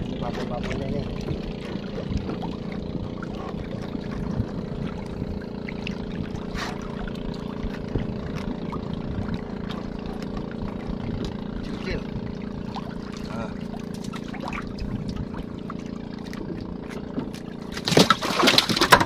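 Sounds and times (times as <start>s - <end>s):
boat engine idling: 0.0s - 19.0s
water splashes: 0.0s - 19.0s.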